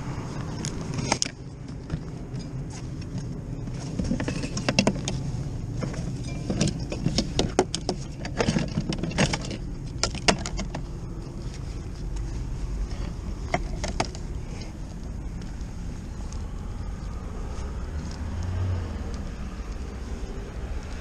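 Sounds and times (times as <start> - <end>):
steady low rumble: 0.0 - 21.0
cables and plugs clicking and rattling: 0.3 - 21.0.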